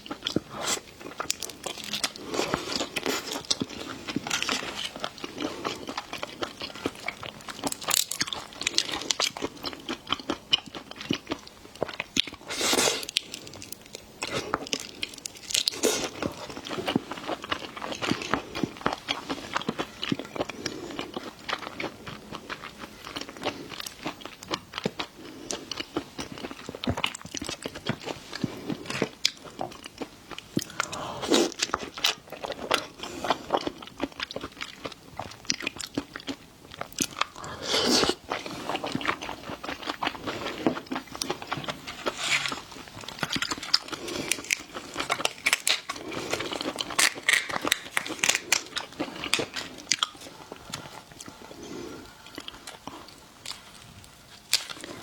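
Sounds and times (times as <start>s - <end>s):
biting and chewing: 0.1s - 51.4s.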